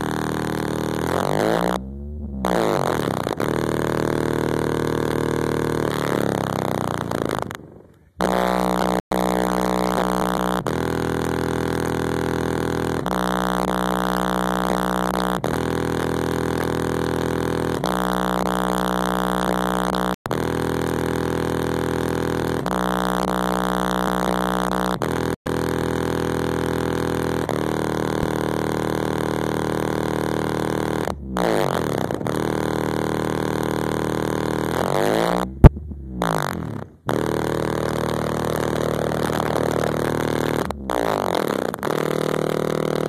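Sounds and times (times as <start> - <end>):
loud bass music from subwoofers: 0.0 - 7.6, 8.2 - 43.0.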